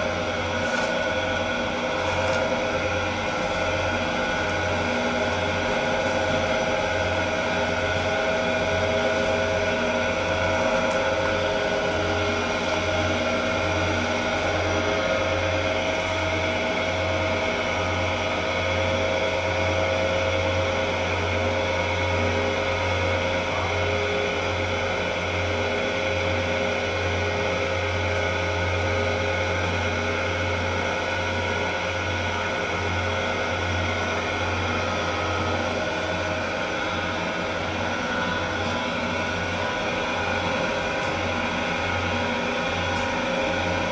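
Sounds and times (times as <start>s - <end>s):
dough mixer motor hum: 0.0s - 43.9s.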